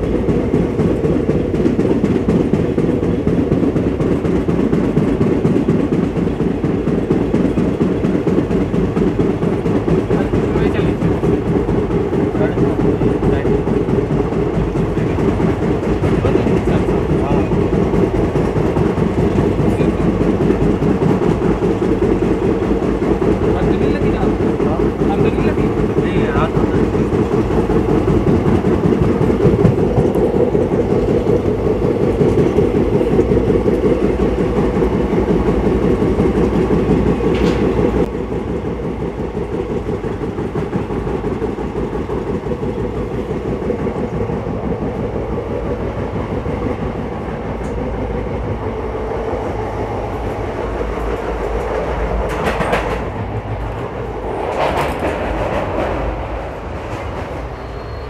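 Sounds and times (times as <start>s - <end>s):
clickety-clack of rail joints: 0.0s - 58.0s
train wheels rumbling on rails: 0.0s - 58.0s.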